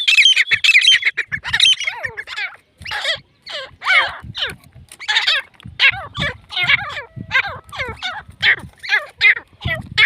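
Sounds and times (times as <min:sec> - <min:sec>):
bird calling harsh repeated notes: 0:00.0 - 0:10.0.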